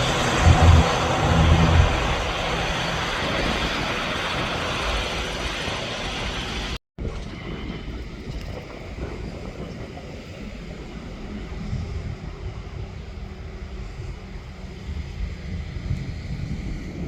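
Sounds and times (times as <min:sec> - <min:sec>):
aircraft engine noise: 0:00.0 - 0:17.0
wind buffeting microphone: 0:00.0 - 0:17.0.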